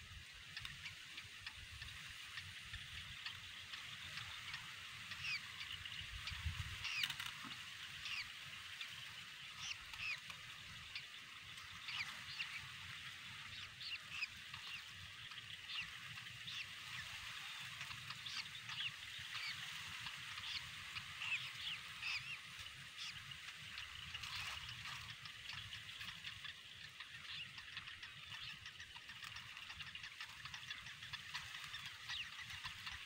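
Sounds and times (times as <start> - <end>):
bird chicks begging calls: 0.3 - 33.0.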